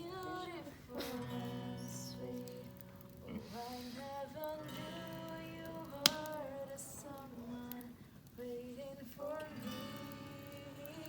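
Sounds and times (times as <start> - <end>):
acoustic guitar: 0.0 - 11.0
woman singing softly: 0.0 - 11.0.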